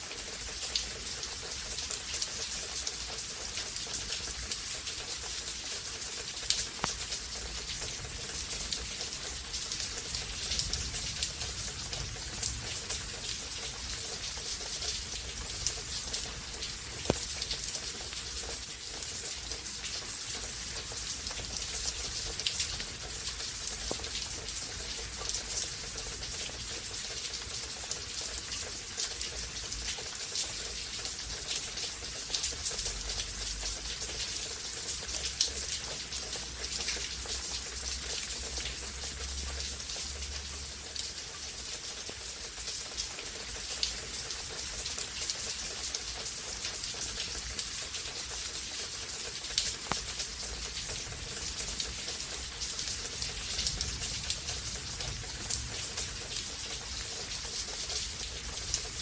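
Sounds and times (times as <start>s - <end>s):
raindrops ticking on surfaces: 0.0s - 59.0s
steady rain hiss: 0.0s - 59.0s.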